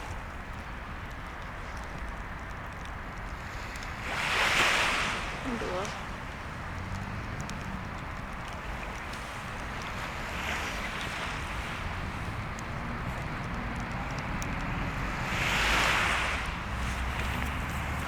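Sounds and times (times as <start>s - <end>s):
faint bonfire crackles: 0.0s - 18.0s
sea waves washing onto shore: 0.0s - 18.0s.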